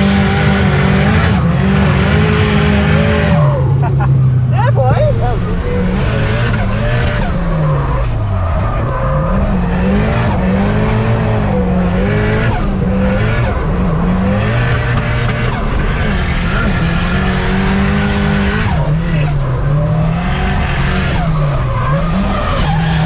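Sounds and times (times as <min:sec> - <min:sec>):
car engine revving hard: 0:00.0 - 0:23.0
tyres skidding: 0:00.0 - 0:23.0.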